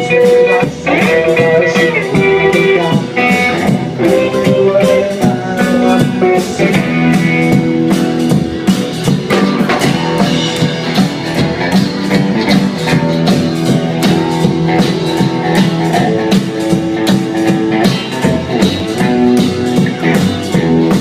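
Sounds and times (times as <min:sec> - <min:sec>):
drum-kit beat: 0:00.0 - 0:21.0
guitar chords: 0:00.0 - 0:21.0.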